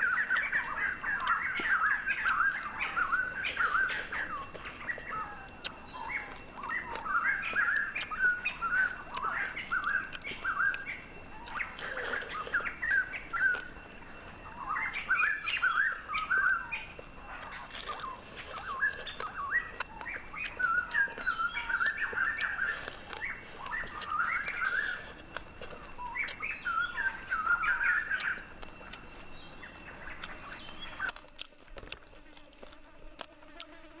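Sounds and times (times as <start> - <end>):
birds chirping: 0.0 - 31.2.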